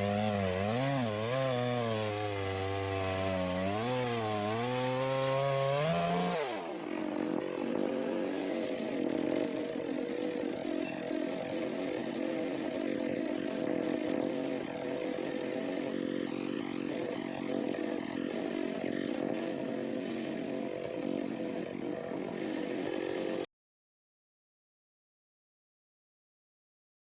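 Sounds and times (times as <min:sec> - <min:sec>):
chainsaw cutting log: 0:00.0 - 0:23.5.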